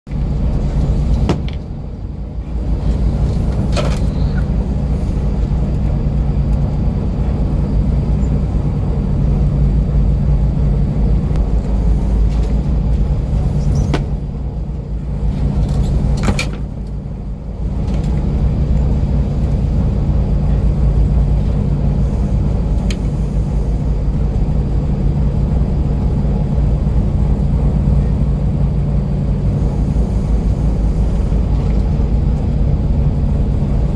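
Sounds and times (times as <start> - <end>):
ship engine drone: 0.1 - 33.9.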